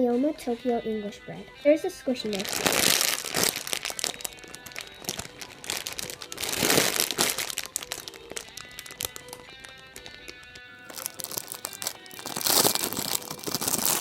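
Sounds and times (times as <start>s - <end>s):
light background music: 0.0s - 14.0s
foam toy crinkling: 2.2s - 14.0s.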